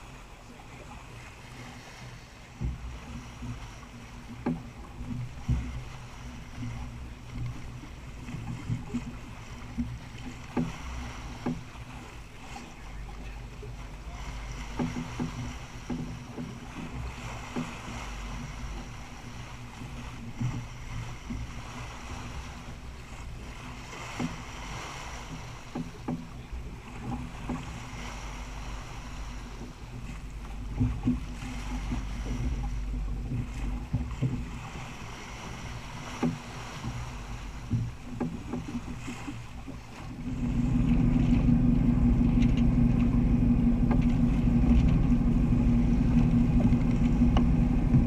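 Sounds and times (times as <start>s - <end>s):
water rushing along hull: 0.0s - 48.0s
steady low hum: 2.6s - 48.0s.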